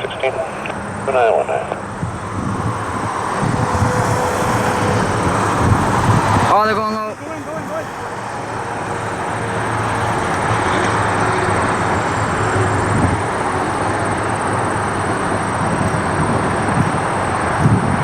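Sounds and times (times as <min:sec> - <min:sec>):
jet engines passing low: 0:00.0 - 0:18.0.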